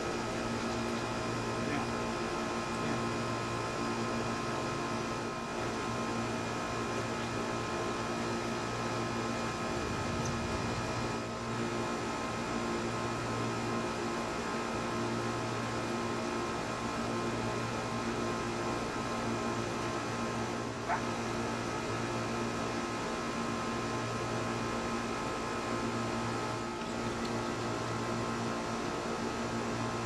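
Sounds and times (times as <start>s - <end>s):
steady hum with hiss: 0.0s - 30.0s.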